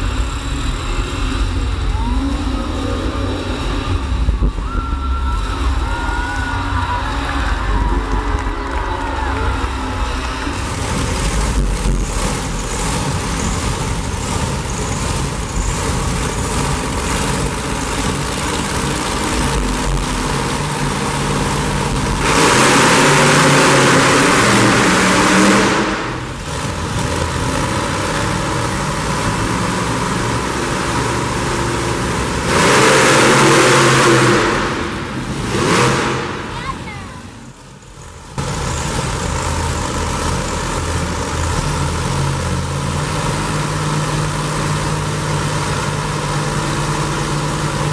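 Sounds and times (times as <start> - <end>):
monster truck engines revving: 0.0 - 47.9.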